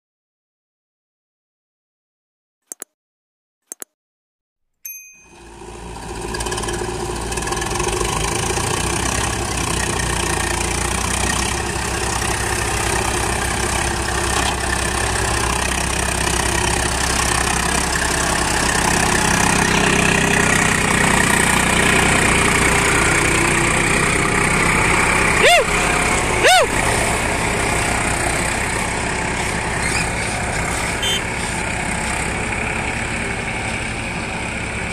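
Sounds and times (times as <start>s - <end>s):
diesel engines idling: 5.3s - 34.9s.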